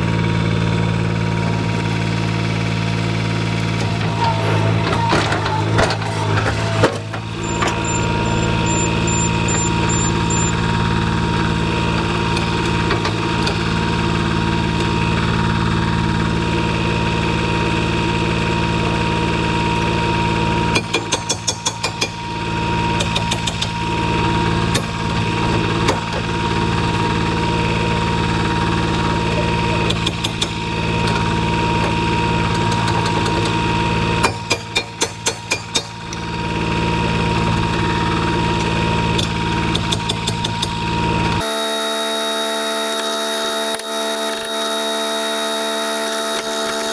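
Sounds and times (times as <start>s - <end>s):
skid steer engine idling: 0.0s - 46.9s.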